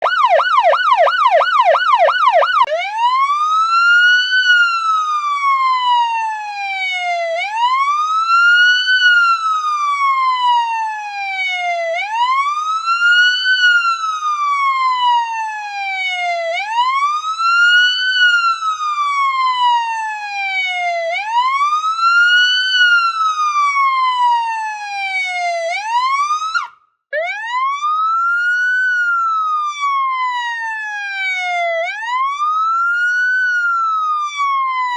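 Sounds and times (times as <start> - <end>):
electronic police siren: 0.0 - 34.9.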